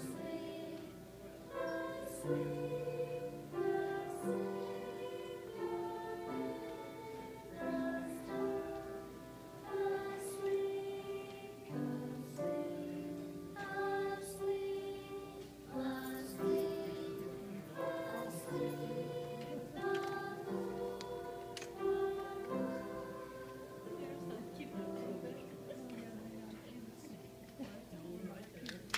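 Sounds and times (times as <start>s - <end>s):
children and adults singing carol: 0.0s - 27.1s.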